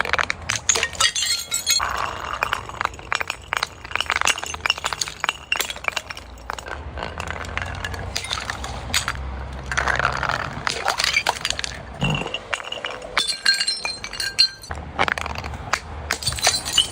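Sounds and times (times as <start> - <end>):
glass bottles crunching: 0.0 - 16.9
glass shards clinking: 0.5 - 9.2, 10.7 - 14.7, 16.1 - 16.9.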